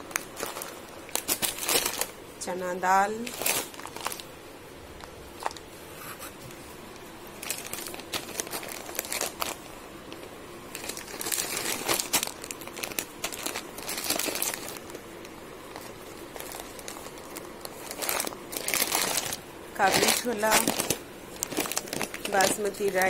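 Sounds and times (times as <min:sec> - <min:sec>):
plastic packets crinkling: 0:00.0 - 0:02.4, 0:03.1 - 0:04.3, 0:04.9 - 0:05.7, 0:06.9 - 0:23.0.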